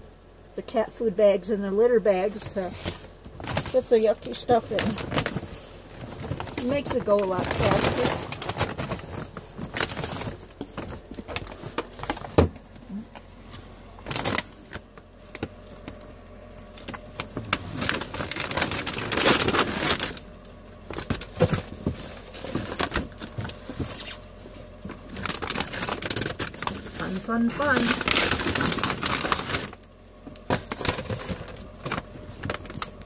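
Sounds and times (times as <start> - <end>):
plastic bag crinkling: 2.5 - 33.0.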